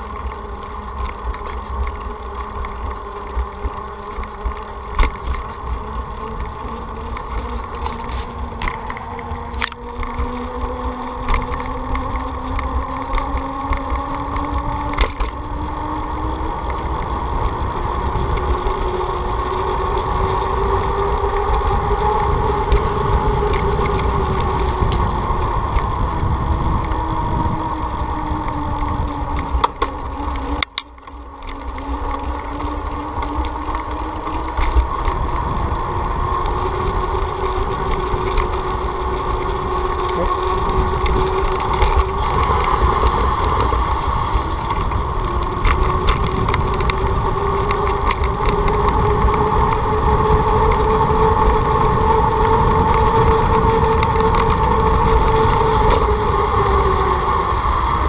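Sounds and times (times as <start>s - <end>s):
steady engine hum: 0.0s - 58.0s
wind rushing over microphone: 0.0s - 58.0s.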